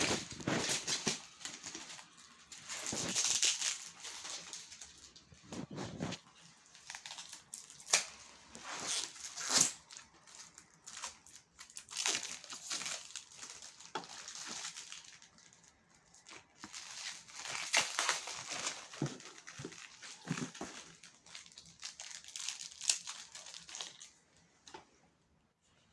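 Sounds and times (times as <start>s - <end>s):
packaging crinkling and tearing: 0.0s - 24.2s.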